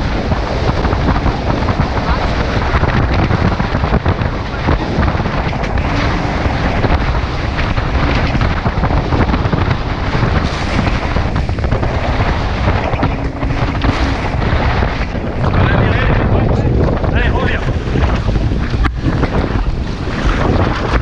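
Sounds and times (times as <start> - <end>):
water rushing off hulls: 0.0 - 21.0
wind buffeting microphone: 0.0 - 21.0.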